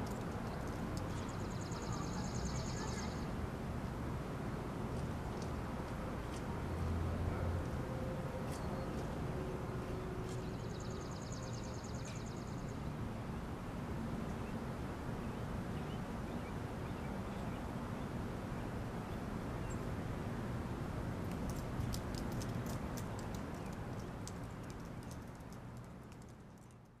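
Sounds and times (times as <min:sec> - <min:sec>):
wind: 0:00.0 - 0:27.0.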